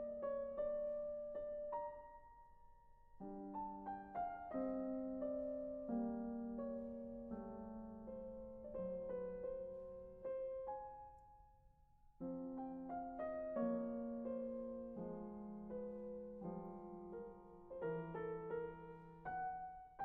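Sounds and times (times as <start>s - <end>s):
piano music: 0.0s - 11.6s, 12.2s - 20.0s.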